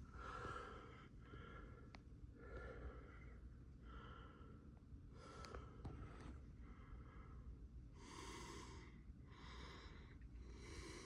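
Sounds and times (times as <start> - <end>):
faint breaths: 0.0 - 11.0.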